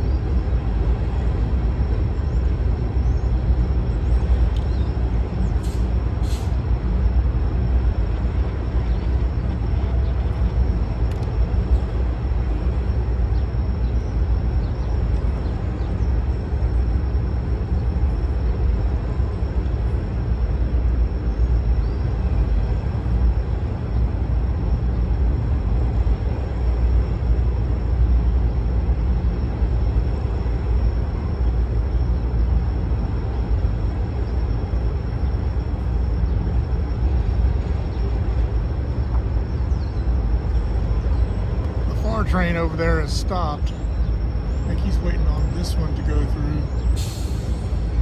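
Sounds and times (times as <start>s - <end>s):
faint high whine: 0.0s - 48.0s
train wheels rumbling on rails: 0.0s - 48.0s.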